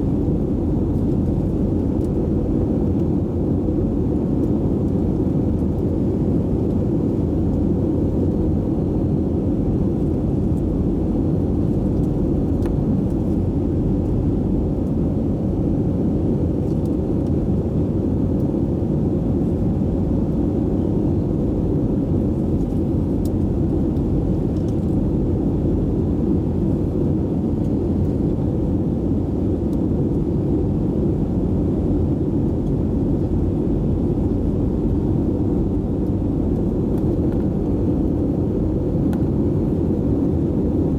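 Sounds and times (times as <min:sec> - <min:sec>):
aircraft cabin rumble: 0:00.0 - 0:40.9.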